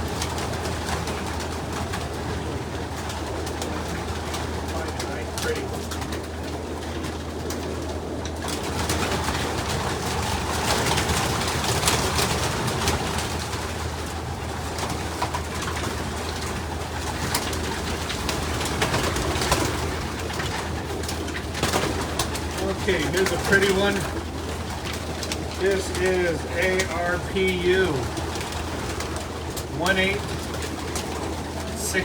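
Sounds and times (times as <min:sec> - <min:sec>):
pigeons cooing: 0:00.0 - 0:32.0
wing flapping and scuffling: 0:00.0 - 0:32.0.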